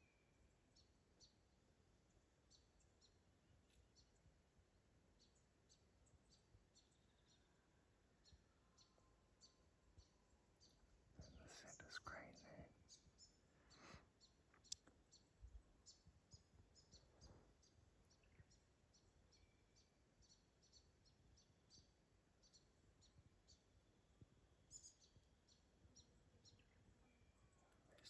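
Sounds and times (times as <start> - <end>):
faint bird chirps: 0.0 - 4.3, 5.1 - 28.0.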